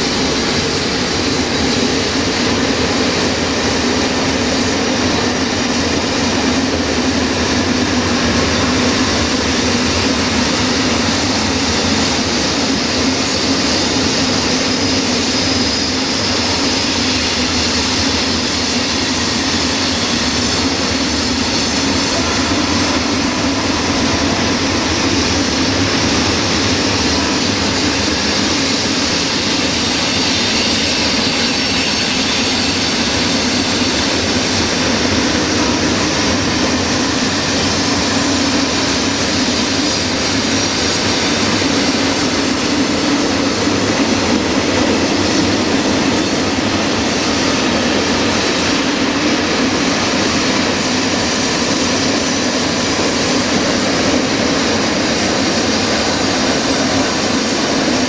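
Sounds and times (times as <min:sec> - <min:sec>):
steel wheels running on rails: 0:00.0 - 0:58.0.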